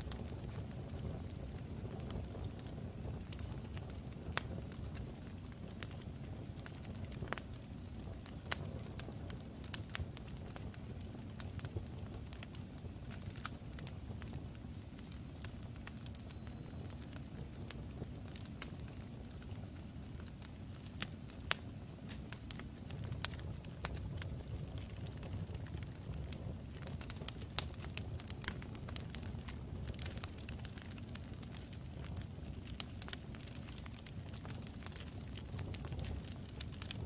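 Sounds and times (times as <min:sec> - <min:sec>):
fire crackling: 0:00.0 - 0:37.0.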